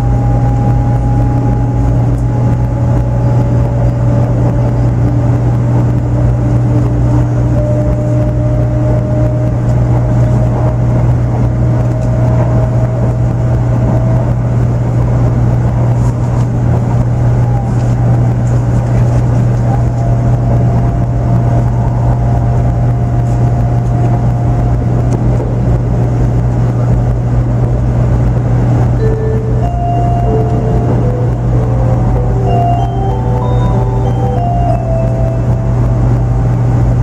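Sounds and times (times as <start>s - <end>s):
train cabin low rumble: 0.0s - 37.0s.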